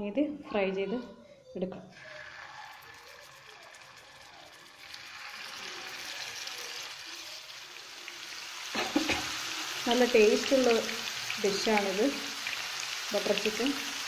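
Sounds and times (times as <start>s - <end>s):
chicken sizzling in hot oil: 2.0s - 14.0s.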